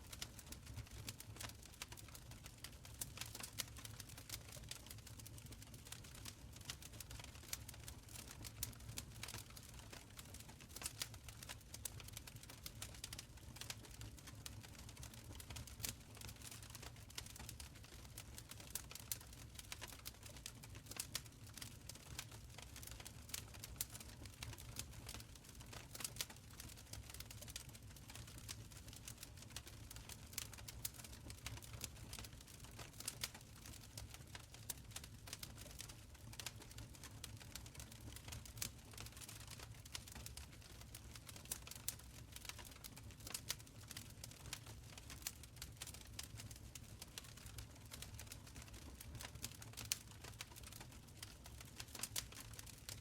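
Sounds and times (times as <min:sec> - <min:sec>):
fire crackling and popping: 0:00.1 - 0:53.0.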